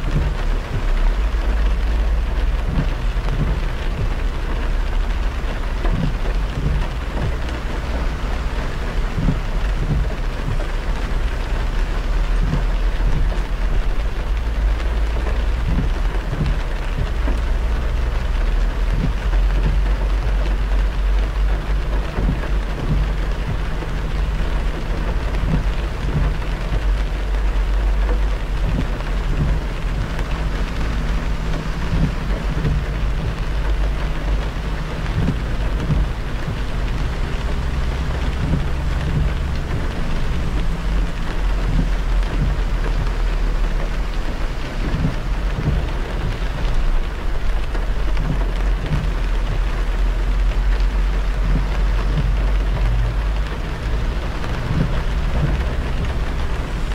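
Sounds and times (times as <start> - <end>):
rain on car: 0.0 - 56.9
road noise rumble: 0.0 - 56.9
tyres hissing on wet road: 0.0 - 56.9.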